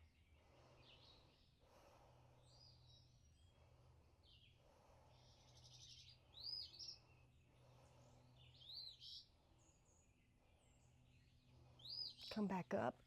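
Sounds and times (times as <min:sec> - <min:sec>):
birds singing faintly: 0:00.0 - 0:13.0.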